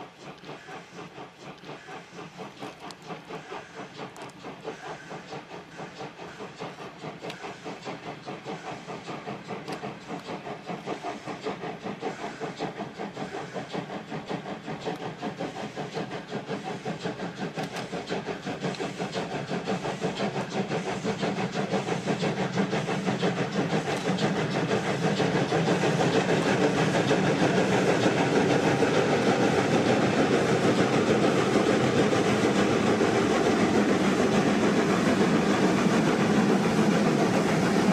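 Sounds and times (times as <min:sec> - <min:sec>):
steam locomotive chuffing: 0:00.0 - 0:37.9.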